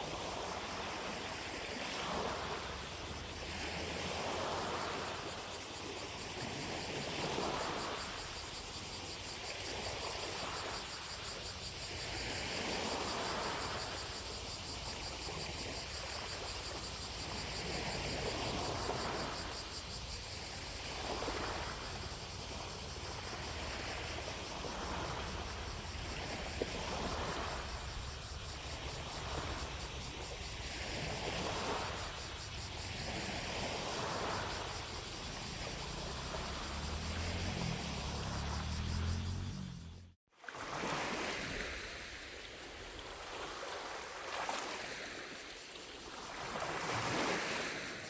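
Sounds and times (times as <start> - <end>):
waves lapping on shore: 0.0 - 39.6, 40.3 - 48.0
distant cicadas droning: 0.0 - 48.0.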